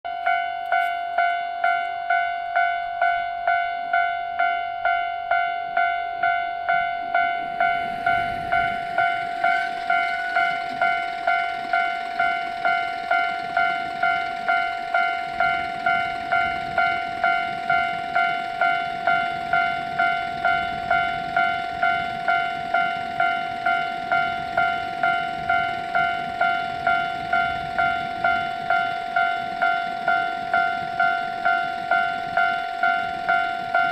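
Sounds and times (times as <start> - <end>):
level-crossing alarm ringing: 0.1 - 33.9.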